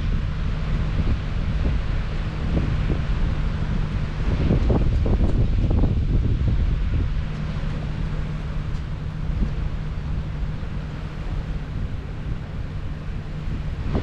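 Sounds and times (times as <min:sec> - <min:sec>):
ship engine hum: 0:00.0 - 0:14.0
wind on microphone: 0:00.0 - 0:14.0.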